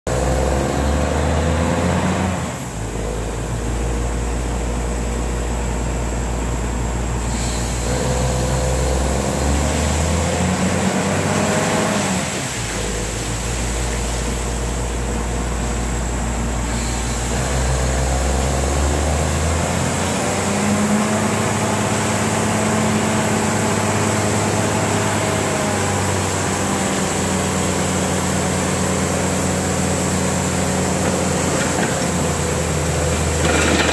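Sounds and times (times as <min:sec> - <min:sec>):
drilling rig engine droning: 0:00.1 - 0:33.9.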